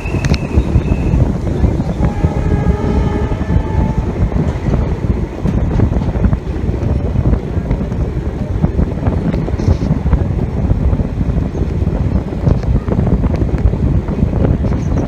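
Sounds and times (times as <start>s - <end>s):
train coaches rumbling: 0.0s - 15.0s
wind buffeting microphone: 0.0s - 15.0s.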